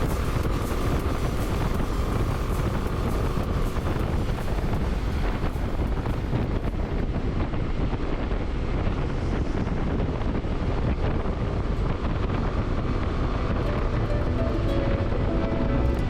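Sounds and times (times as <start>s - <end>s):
road and engine noise: 0.0s - 16.0s
wind buffeting microphone: 0.0s - 16.0s.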